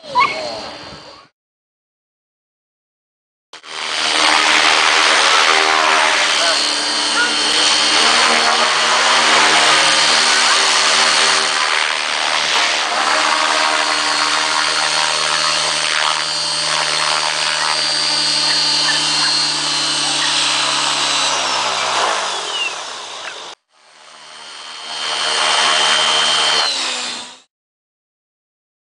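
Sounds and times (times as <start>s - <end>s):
rc helicopter motor whine: 3.6s - 27.5s.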